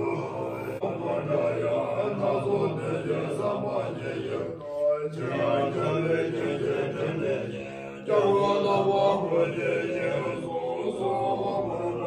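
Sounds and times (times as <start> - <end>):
monks chanting: 0.0 - 12.0.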